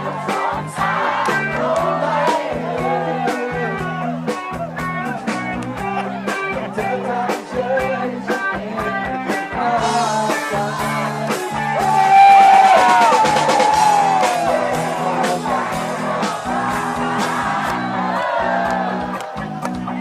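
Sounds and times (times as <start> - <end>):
person singing: 0.0 - 4.4, 5.0 - 17.0
bass guitar: 0.0 - 20.0
drum beat: 0.0 - 20.0
electric guitar: 0.0 - 20.0.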